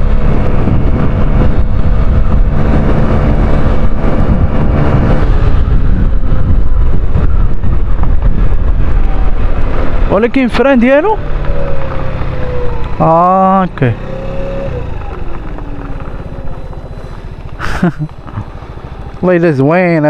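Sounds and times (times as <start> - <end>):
scooter engine at full throttle: 0.0 - 19.8
wind rushing over microphone: 0.0 - 20.0.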